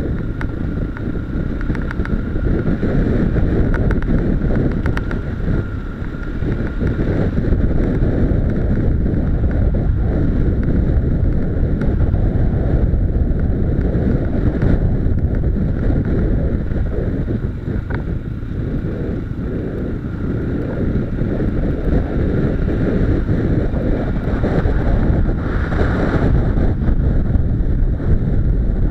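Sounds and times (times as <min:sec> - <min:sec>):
motorcycle running: 0:00.0 - 0:28.9
tyres rumbling on gravel: 0:00.0 - 0:28.9
wind buffeting on microphone: 0:00.0 - 0:28.9.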